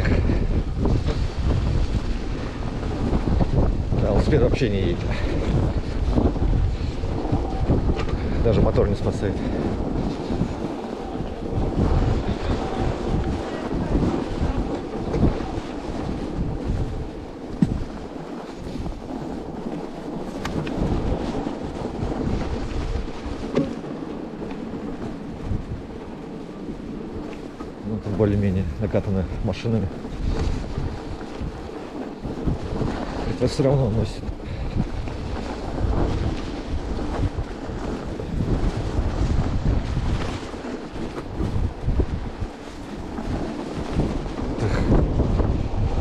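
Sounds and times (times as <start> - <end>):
blizzard wind buffeting microphone: 0.0 - 46.0.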